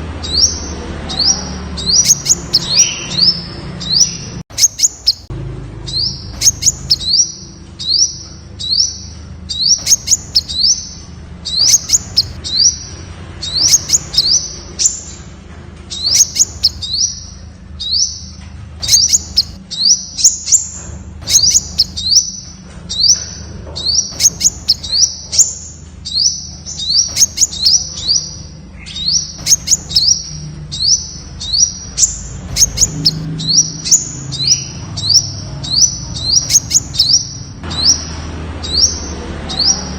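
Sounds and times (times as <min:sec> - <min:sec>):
bird singing high notes: 0:00.2 - 0:05.3, 0:05.9 - 0:15.2, 0:15.9 - 0:39.8.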